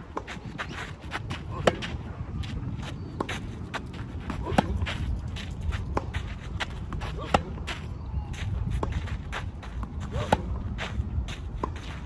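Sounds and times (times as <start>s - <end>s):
footsteps scuffing on clay: 0.0s - 12.0s.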